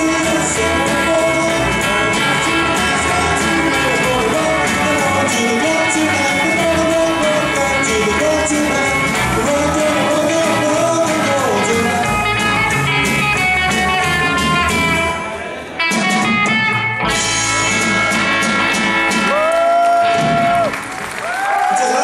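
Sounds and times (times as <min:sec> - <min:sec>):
live rock band playing: 0:00.0 - 0:21.2.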